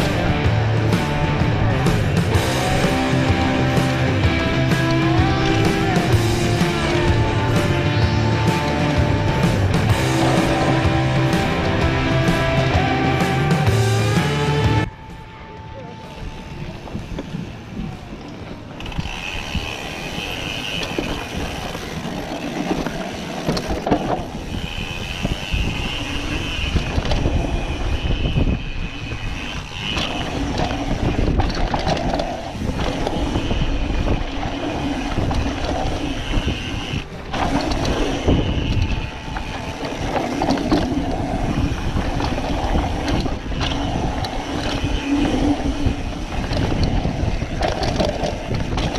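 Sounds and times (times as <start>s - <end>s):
bike tyres rumbling and rattling: 0.0s - 48.9s.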